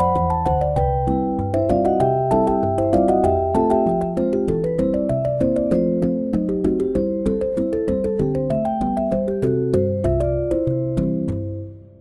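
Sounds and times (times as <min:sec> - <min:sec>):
keyboard music over ticking beat: 0:00.0 - 0:11.9.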